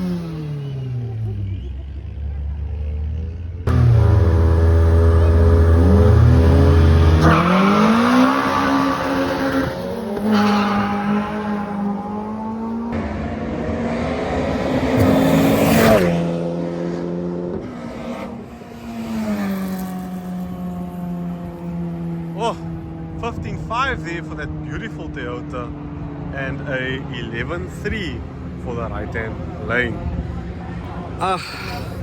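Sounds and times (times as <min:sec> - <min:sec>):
drag racing cars accelerating: 0:00.0 - 0:31.2.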